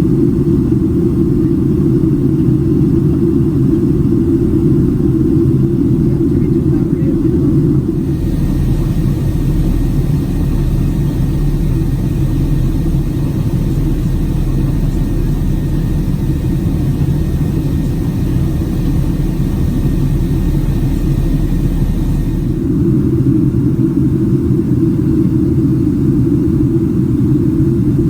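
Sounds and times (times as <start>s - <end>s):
airplane engine rumble in cabin: 0.0s - 28.0s.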